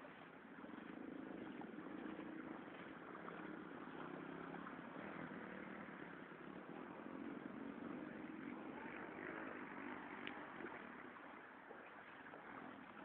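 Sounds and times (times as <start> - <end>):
motor engine humming: 0.0 - 11.3.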